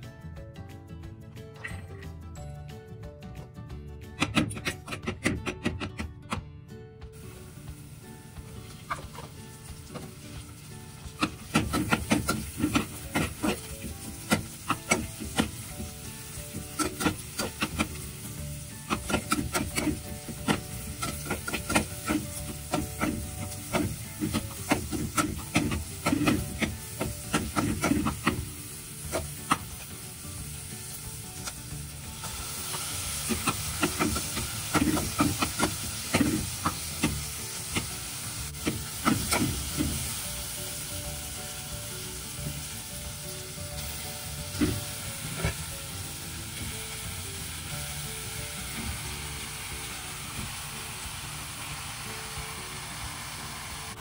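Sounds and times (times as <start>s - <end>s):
onions sizzling: 7.2s - 54.0s.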